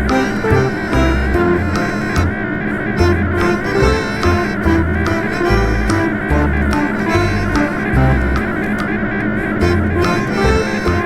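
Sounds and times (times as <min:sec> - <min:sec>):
guitar music with steady beat: 0:00.0 - 0:08.8, 0:09.6 - 0:11.0.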